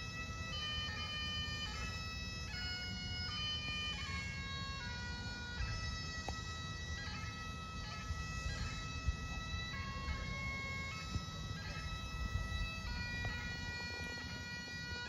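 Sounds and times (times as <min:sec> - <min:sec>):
bagpipes playing slow tune: 0:00.0 - 0:15.0
steady low rumble: 0:00.0 - 0:15.0.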